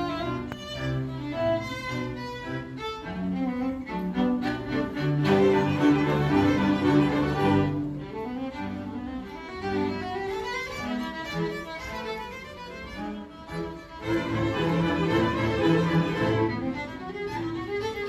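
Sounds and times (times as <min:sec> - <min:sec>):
solo violin melody: 0:00.0 - 0:18.0.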